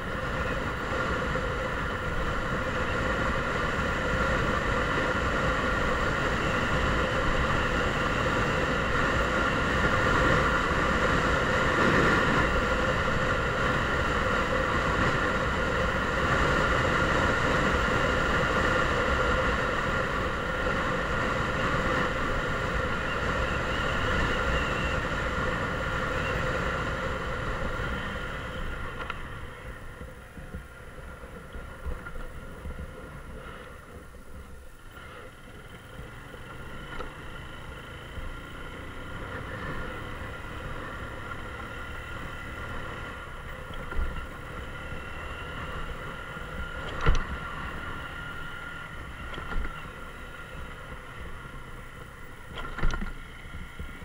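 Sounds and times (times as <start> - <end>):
motorcycle engine running: 0.0 - 54.0
wind and road rush: 0.0 - 54.0.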